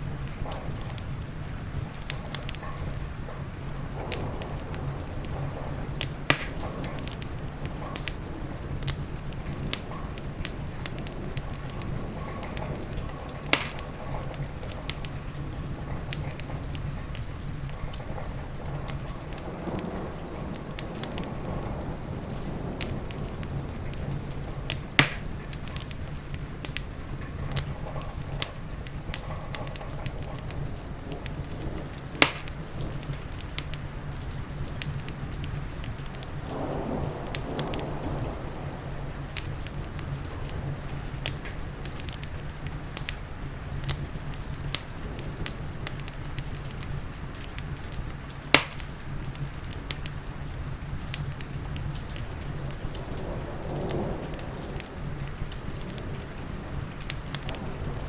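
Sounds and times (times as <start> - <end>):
rain: 0.0 - 58.0
wood fire crackling and popping: 0.0 - 58.0.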